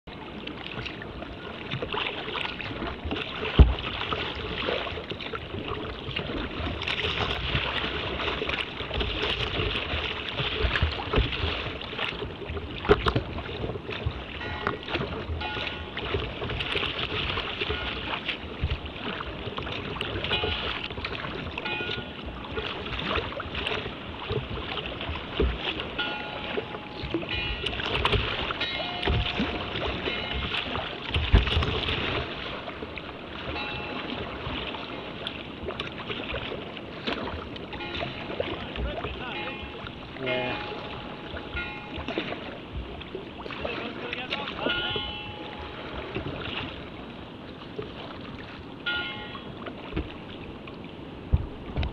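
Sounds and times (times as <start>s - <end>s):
water splashing against kayak hull: 0.1s - 51.9s.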